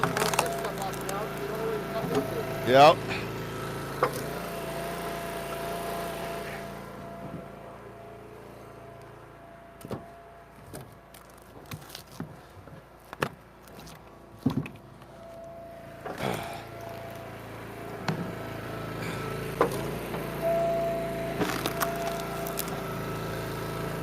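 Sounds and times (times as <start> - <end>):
log splitter engine running: 0.0 - 24.0.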